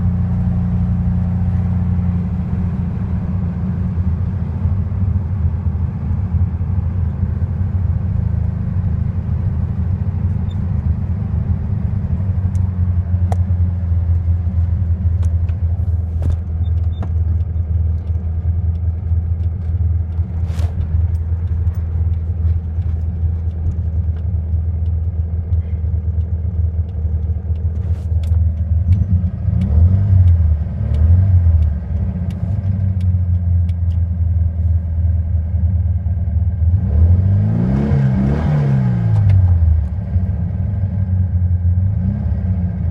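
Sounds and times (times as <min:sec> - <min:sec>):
car engine rumbling: 0:00.0 - 0:42.9.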